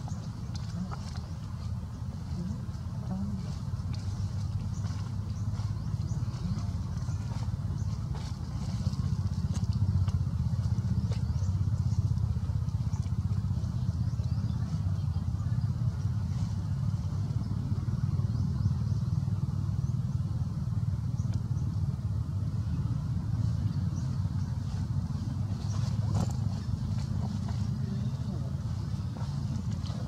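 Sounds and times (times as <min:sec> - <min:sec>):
low rumble with fast pulsing: 0:00.0 - 0:30.0.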